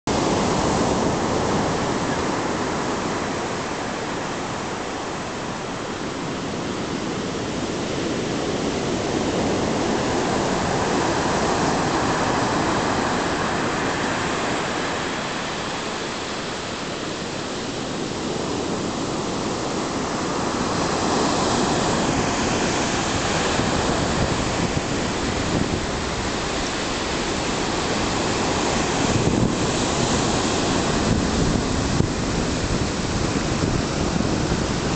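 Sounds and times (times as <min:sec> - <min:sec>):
waves breaking on shore: 0:00.1 - 0:34.9.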